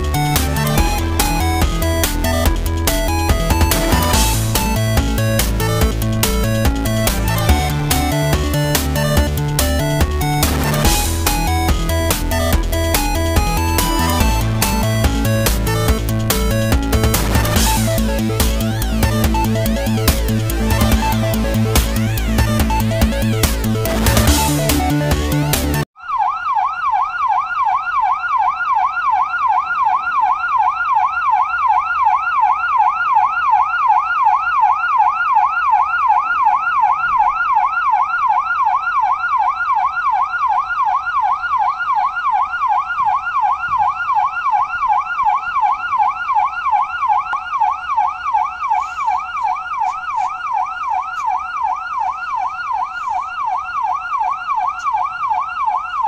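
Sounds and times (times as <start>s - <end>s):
fire engine siren yelping: 0.0s - 56.0s.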